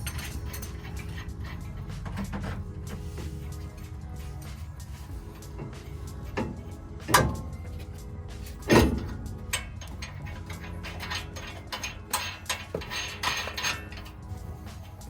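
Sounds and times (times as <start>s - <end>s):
loud ringing metallic clanks: 0.0s - 15.0s
metal tools clanking and clicking: 0.0s - 15.0s.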